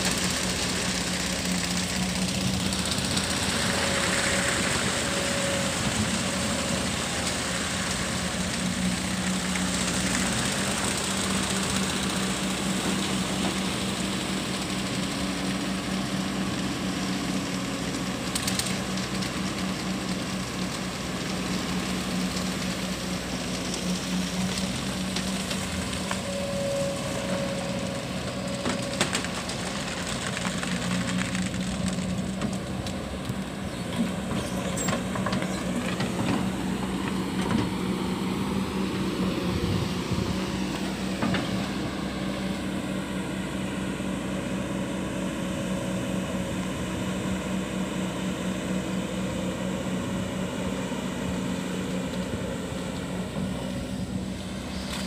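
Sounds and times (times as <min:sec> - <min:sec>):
excavator diesel engine droning: 0:00.0 - 0:55.0.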